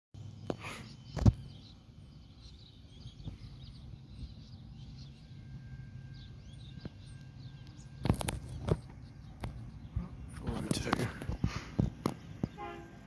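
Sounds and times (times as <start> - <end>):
low outdoor rumble: 0.2 - 13.0
small birds chirping: 0.2 - 13.0.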